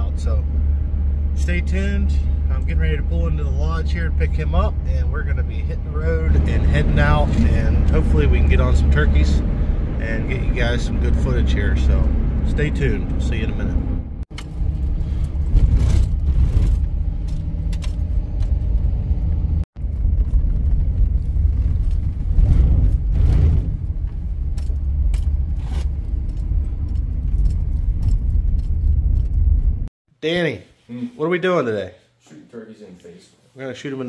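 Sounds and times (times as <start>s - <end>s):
engine and tyre rumble: 0.0s - 29.9s.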